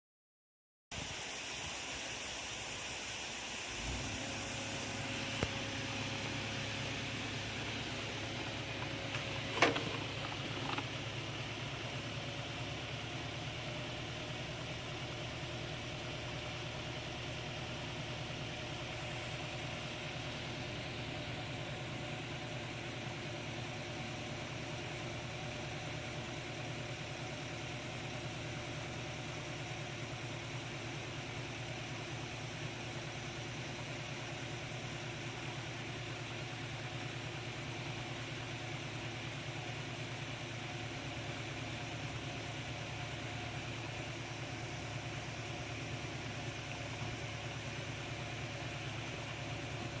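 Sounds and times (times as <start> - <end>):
engine idling: 1.0 - 50.0.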